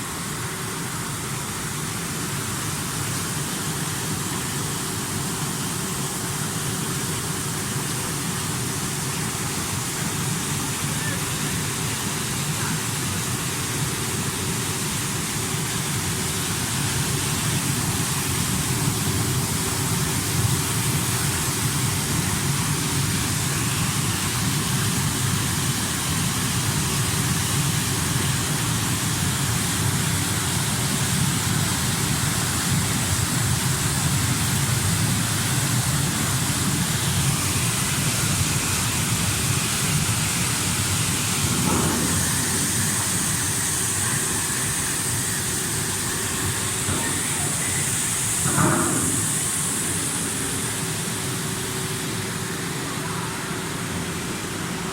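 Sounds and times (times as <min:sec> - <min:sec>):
low machine hum: 0:08.6 - 0:54.9.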